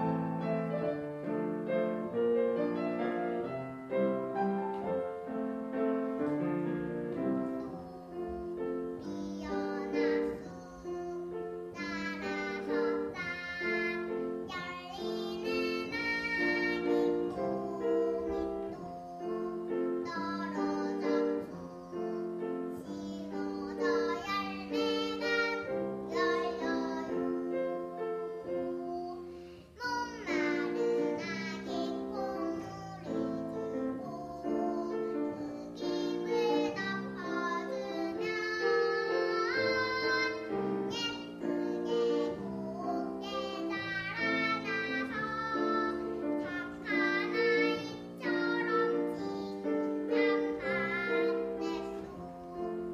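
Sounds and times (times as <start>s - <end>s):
instrumental accompaniment: 0.0s - 52.9s
child singing: 6.0s - 52.9s.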